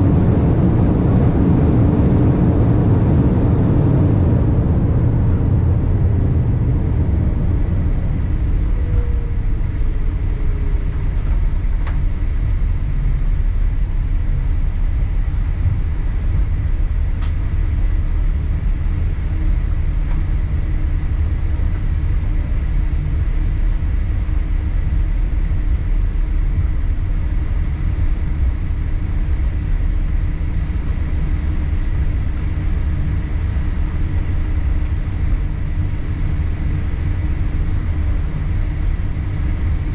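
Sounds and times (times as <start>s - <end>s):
aircraft engines and wheels rumbling: 0.0s - 39.9s
steady hum: 0.0s - 39.9s.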